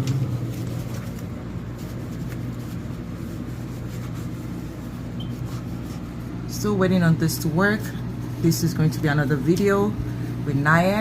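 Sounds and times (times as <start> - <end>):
steady low hum: 0.0 - 11.0
cloth rubbing a surface: 0.3 - 11.0.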